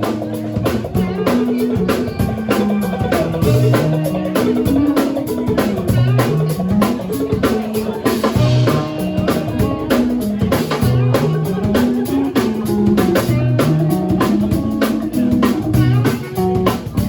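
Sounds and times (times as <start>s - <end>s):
drum kit beat: 0.0s - 17.0s
electric bass line: 0.0s - 17.0s
electric guitar: 0.0s - 17.0s
rock band playing: 0.0s - 17.0s.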